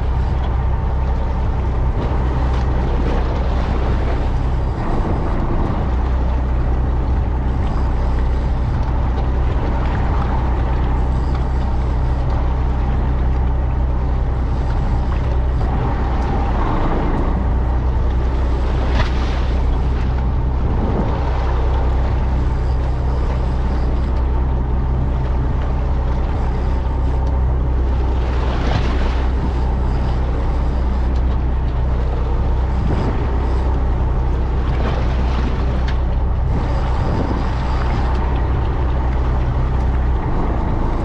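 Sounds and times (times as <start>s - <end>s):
boat engine droning: 0.0s - 41.0s
water: 0.0s - 41.0s
wind: 0.0s - 41.0s.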